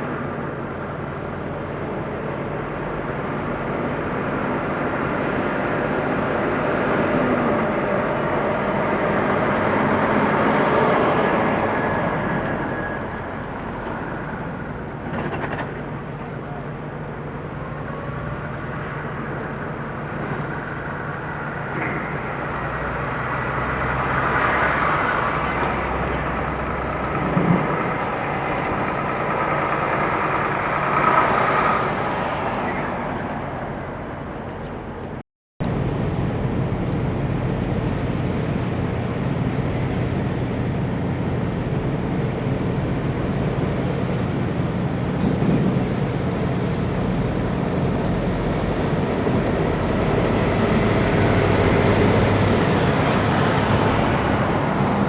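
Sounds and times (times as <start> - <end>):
diesel truck engine running: 0.0 - 55.0
diesel trucks passing on road: 0.0 - 55.0.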